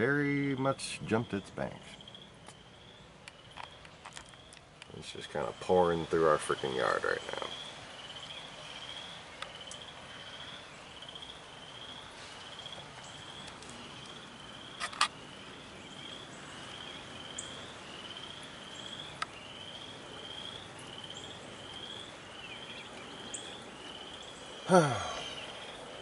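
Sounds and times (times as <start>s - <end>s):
faint steady hiss: 0.0s - 26.0s
frog chirping: 1.2s - 26.0s.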